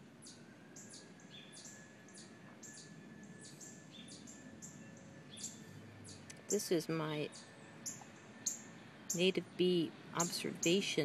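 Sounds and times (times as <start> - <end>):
bird chirping: 0.2 - 11.0.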